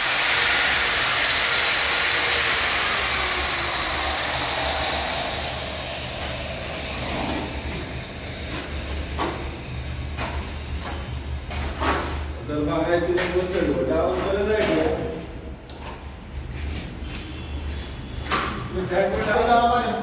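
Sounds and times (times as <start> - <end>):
steady mechanical noise: 0.0 - 20.0.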